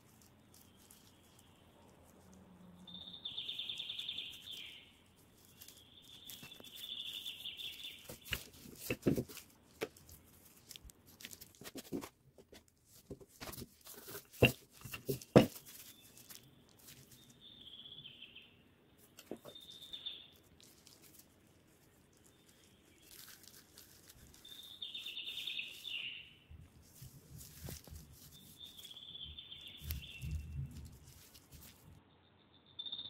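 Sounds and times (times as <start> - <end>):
small bird chirping: 0.0 - 11.8, 13.5 - 33.0.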